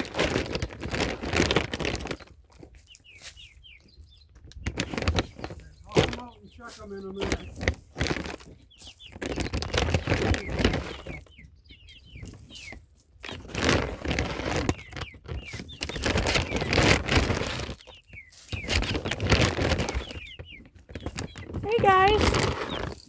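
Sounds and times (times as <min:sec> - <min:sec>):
chicks peeping: 0:00.0 - 0:23.0
rustling and crunching: 0:00.0 - 0:23.0.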